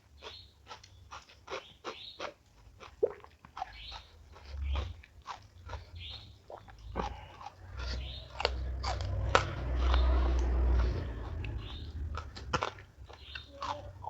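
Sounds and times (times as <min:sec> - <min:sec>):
crunchy chewing of food: 0:00.0 - 0:14.0.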